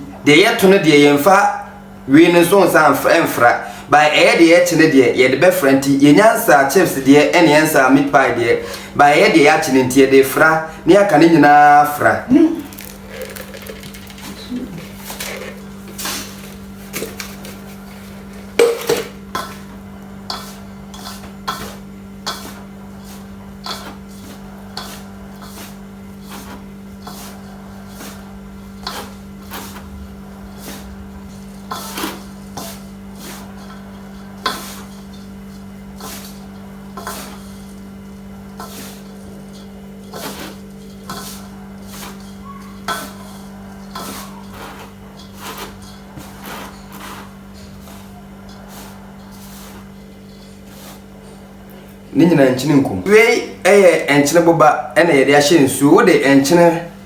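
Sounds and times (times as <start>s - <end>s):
low steady hum: 1.6s - 55.0s.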